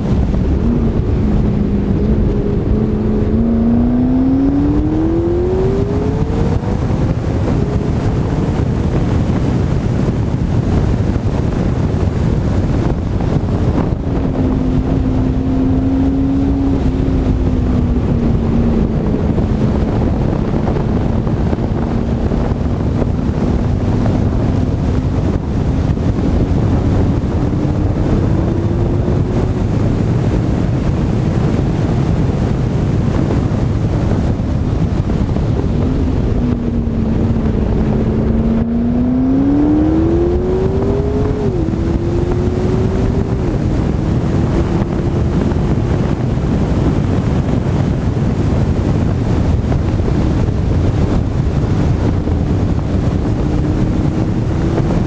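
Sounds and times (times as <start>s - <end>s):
car engine accelerating: 0.0s - 55.0s
wind rush on microphone: 0.0s - 55.0s.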